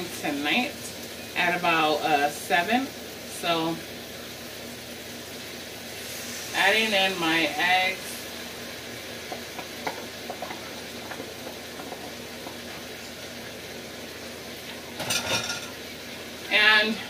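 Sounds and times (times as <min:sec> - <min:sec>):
eggs sizzling in a skillet: 0:00.0 - 0:17.0.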